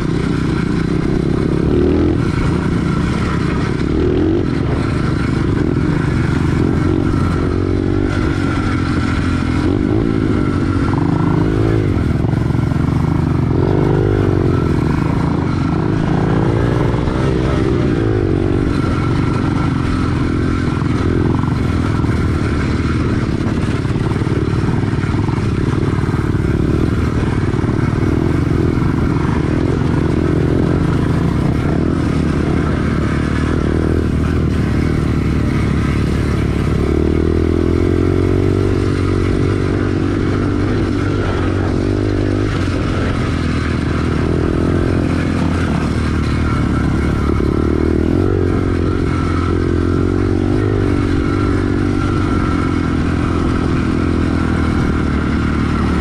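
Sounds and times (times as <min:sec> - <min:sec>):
pit bike engine revving: 0:00.0 - 0:56.0.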